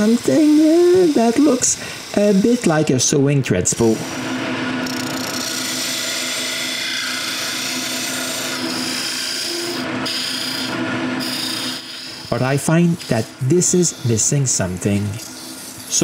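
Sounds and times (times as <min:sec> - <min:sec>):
lathe tool cutting wood: 0:00.0 - 0:16.0
wood lathe humming: 0:00.0 - 0:16.0.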